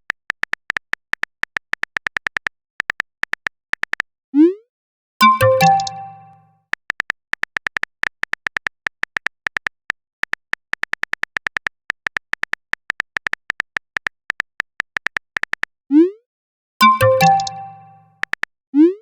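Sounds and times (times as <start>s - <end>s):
phone keyboard typing clicks: 0.0s - 4.1s, 5.2s - 15.7s, 16.8s - 18.5s.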